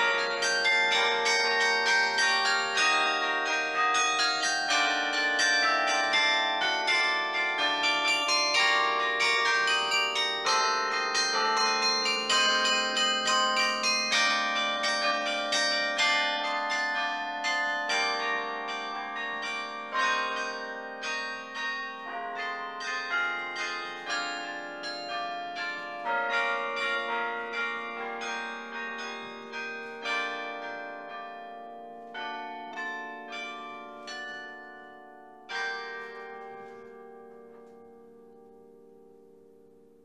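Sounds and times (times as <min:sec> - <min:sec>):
carillon bell melody: 0:00.0 - 0:38.1
low bells ringing: 0:00.0 - 0:39.6.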